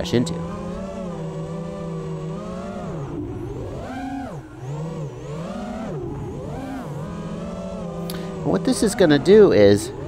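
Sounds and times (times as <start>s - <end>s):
quadcopter motors whining: 0.0s - 10.0s.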